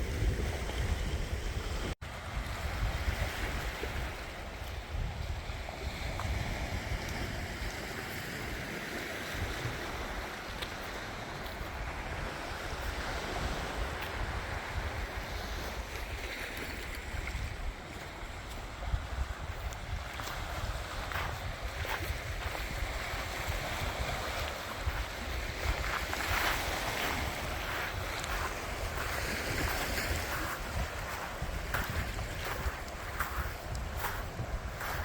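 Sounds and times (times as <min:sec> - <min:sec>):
small waves washing onto beach: 0:00.0 - 0:35.0
wind rumbling on microphone: 0:00.0 - 0:35.0.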